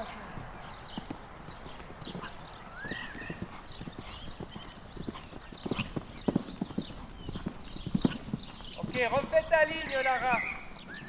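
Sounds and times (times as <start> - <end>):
horse hooves cantering on sand: 0.0 - 11.0.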